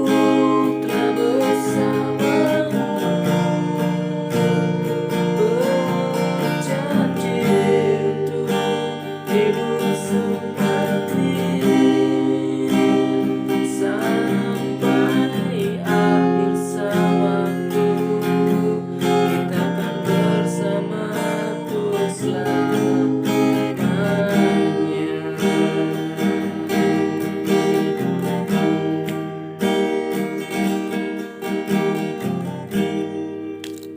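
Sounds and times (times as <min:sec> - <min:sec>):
person singing: 0:00.0 - 0:29.3
acoustic guitar strumming: 0:00.0 - 0:33.9.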